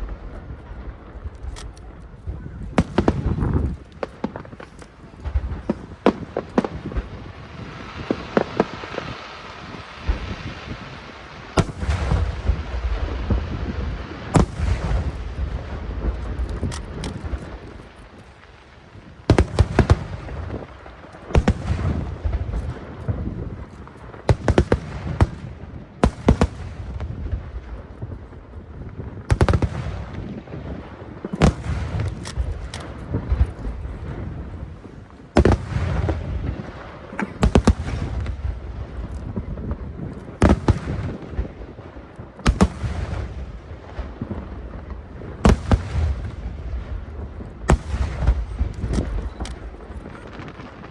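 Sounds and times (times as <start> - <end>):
fireworks crackling: 0.0 - 50.9
fireworks shells booming: 0.0 - 50.9.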